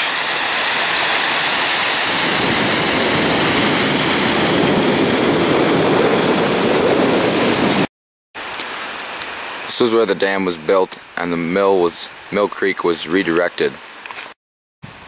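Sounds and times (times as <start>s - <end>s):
water rushing over dam spillway: 0.0s - 14.1s.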